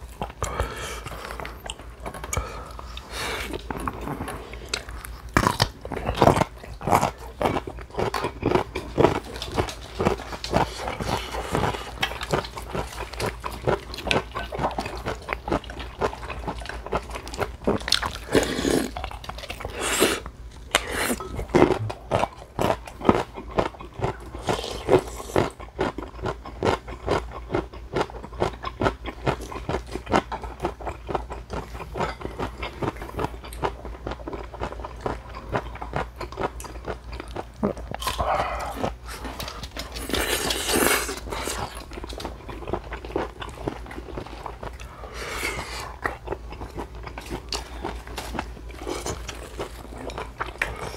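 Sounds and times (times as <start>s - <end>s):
chewing and crunching food: 0.0s - 50.9s.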